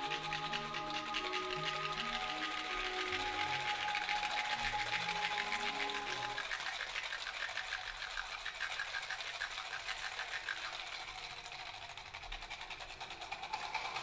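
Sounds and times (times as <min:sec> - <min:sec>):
rapid high-pitched clicking rattle: 0:00.0 - 0:14.0.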